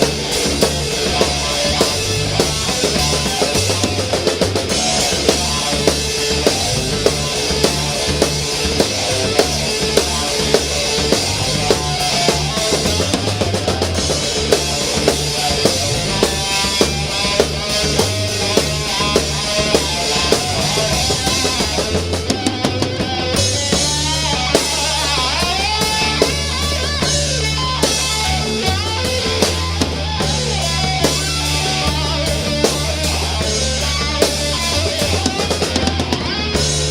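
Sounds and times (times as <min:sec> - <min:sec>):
drum fill: 0:00.0 - 0:36.9
rock band playing: 0:00.0 - 0:36.9.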